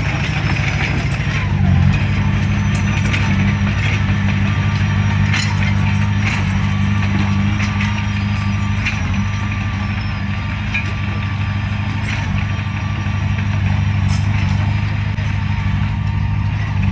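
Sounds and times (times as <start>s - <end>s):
machine knocks and clanks: 0.0s - 15.4s
bulldozer diesel engine running: 0.0s - 16.9s.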